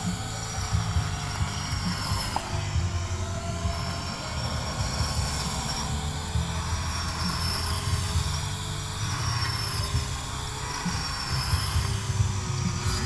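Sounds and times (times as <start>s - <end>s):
grass trimmer cutting weeds: 0.0s - 13.0s.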